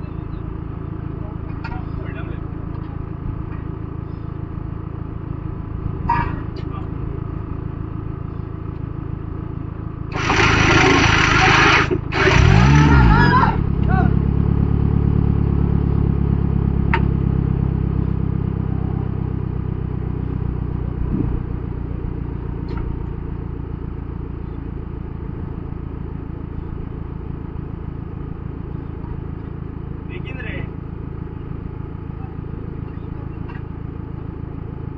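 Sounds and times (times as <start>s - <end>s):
engine running at low revs: 0.0s - 34.9s.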